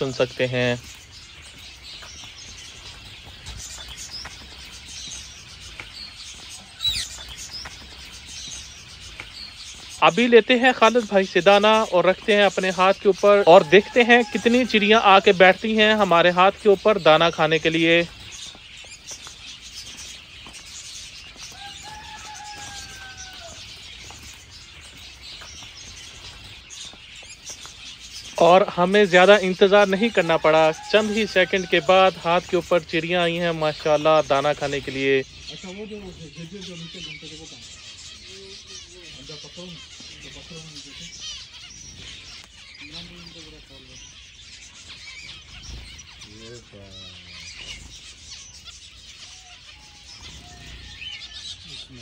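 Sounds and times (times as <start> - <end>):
loud sweeping bird call: 0.0 - 52.0
small birds chirping: 0.0 - 52.0.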